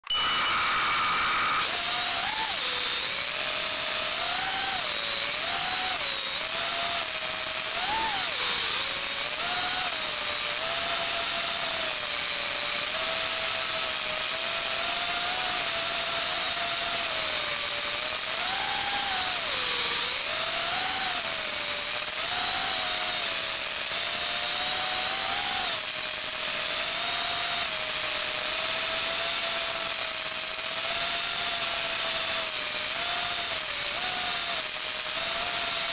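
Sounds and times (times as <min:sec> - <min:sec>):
quadcopter propellers whining: 0:00.0 - 0:35.9.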